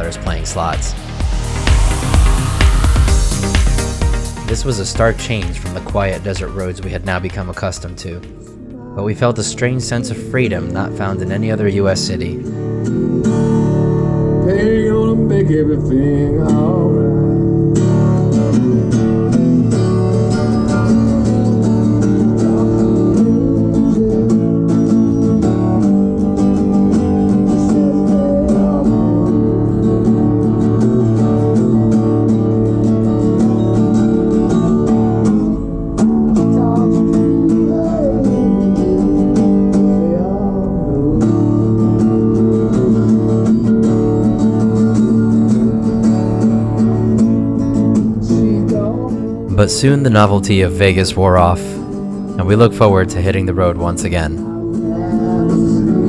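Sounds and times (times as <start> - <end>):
song with acoustic guitar and singing: 0.0 - 56.0.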